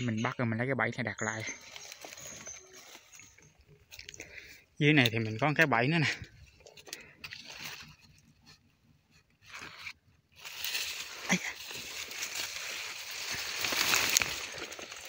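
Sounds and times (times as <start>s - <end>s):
leaves and dry grass rustling: 1.1s - 15.0s.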